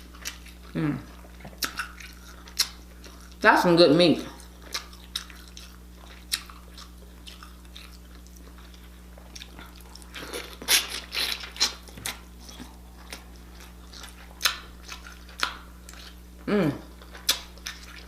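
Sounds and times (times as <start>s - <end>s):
chewing and mouth sounds: 0.0s - 3.4s, 4.2s - 18.0s
steady low hum: 0.0s - 18.0s.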